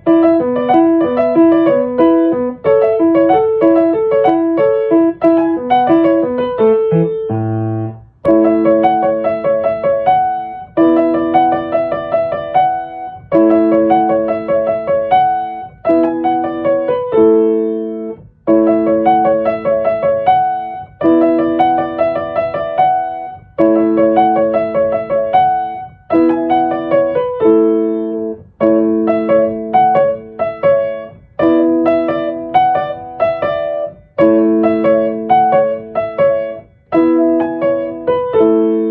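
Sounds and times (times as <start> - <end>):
piano chords: 0.0 - 38.9.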